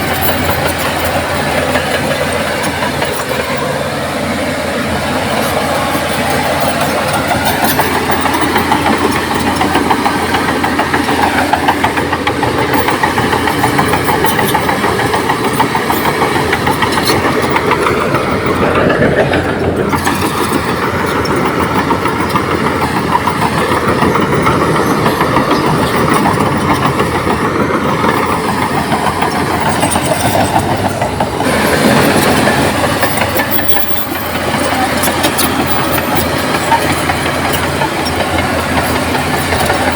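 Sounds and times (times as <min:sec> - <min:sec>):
bulldozer diesel engine running: 0:00.0 - 0:39.9
steel tracks clattering: 0:00.0 - 0:39.9.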